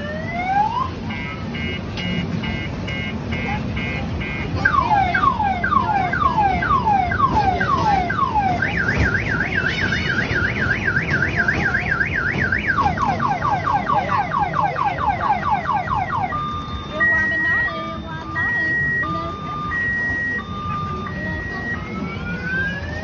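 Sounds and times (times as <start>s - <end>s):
electronic siren sweeping and warbling: 4.6s - 23.0s.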